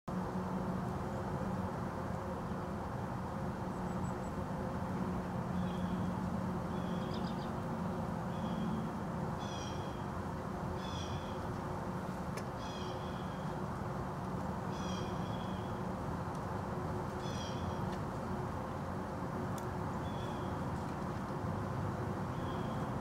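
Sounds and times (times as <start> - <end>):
low hum and rumble: 0.1 - 23.0.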